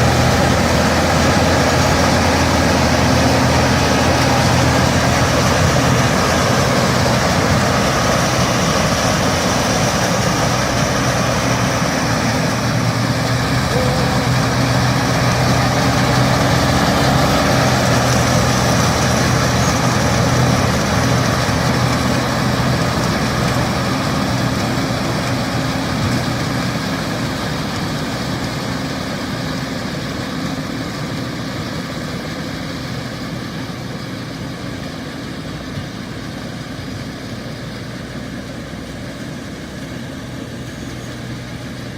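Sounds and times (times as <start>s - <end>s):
combine harvester engine drone: 0.0s - 41.9s.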